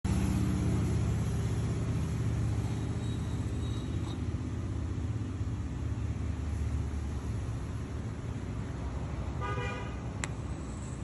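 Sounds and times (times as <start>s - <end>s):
low rumble with droning hum: 0.1s - 11.0s.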